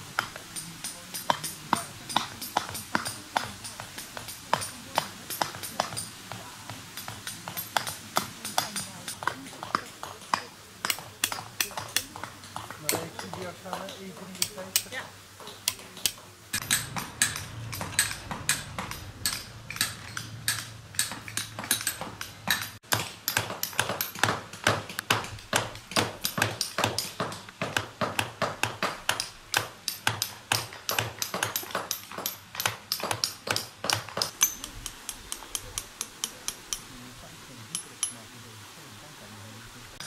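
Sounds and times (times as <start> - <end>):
hammer striking chisel on stone: 0.0 - 36.9, 37.7 - 38.2.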